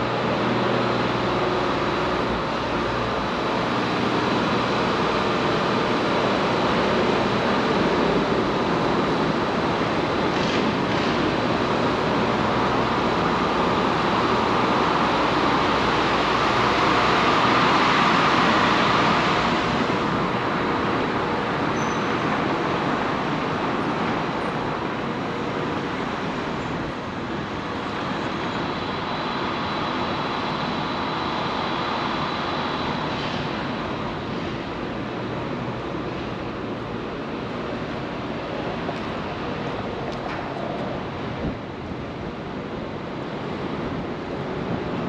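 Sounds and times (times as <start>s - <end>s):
city traffic rushing: 0.0s - 45.0s.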